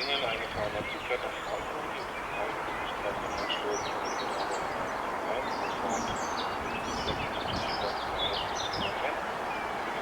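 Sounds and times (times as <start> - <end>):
birds chirping and twittering: 0.0 - 10.0
steady background noise: 0.0 - 10.0.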